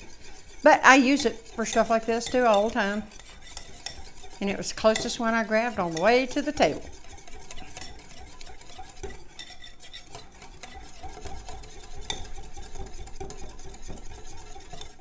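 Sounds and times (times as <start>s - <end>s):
whisk scraping in ceramic bowl: 0.0s - 15.0s
whisk wires clicking on bowl: 0.0s - 15.0s.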